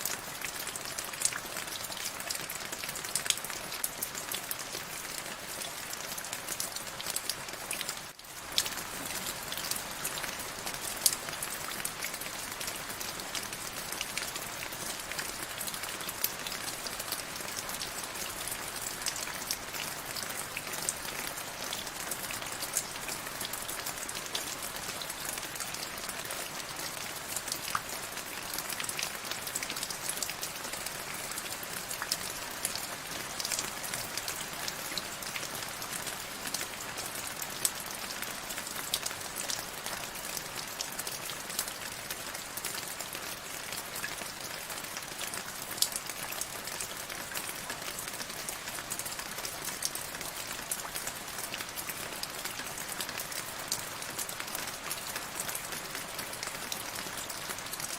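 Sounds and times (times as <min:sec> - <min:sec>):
steady rain on a surface: 0:00.0 - 0:57.9.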